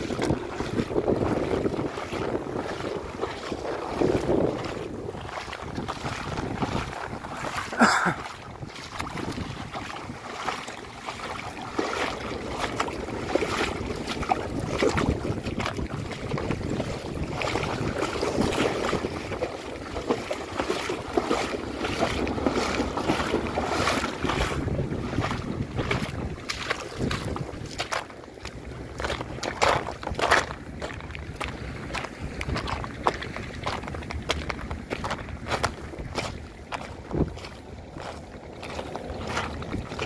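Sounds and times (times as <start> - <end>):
waves lapping on stones: 0.0 - 40.0
wind buffeting microphone: 0.0 - 40.0.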